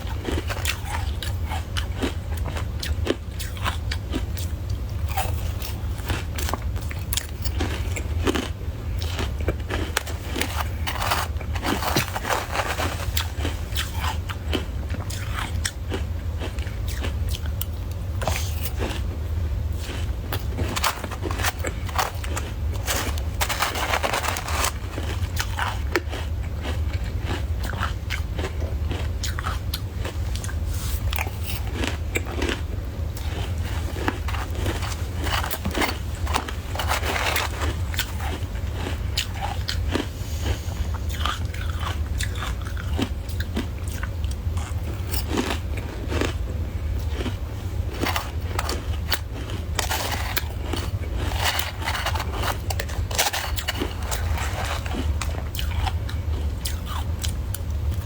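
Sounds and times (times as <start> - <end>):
chewing crunchy ice: 0.0 - 58.0.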